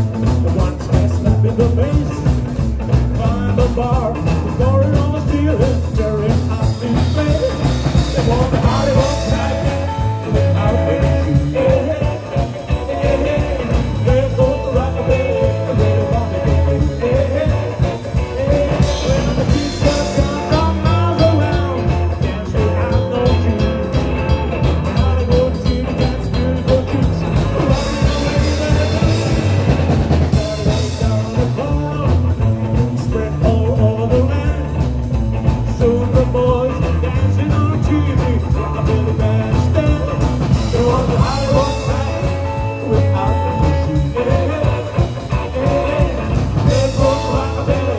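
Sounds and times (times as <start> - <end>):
rock and roll band playing: 0.0 - 47.9.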